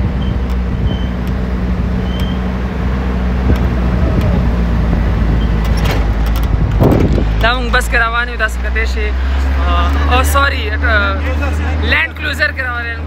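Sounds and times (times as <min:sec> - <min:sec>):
engine running: 0:00.0 - 0:13.0
tyres on rough track: 0:00.0 - 0:13.0.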